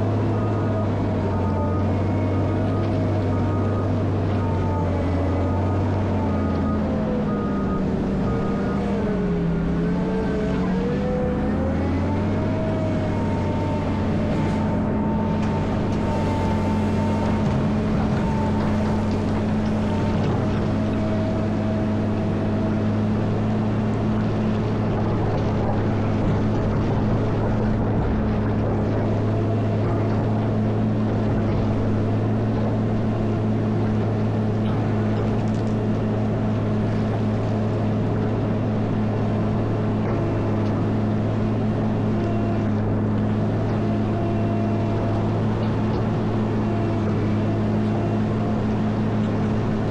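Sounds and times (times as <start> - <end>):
diesel engine droning under load: 0.0 - 49.9.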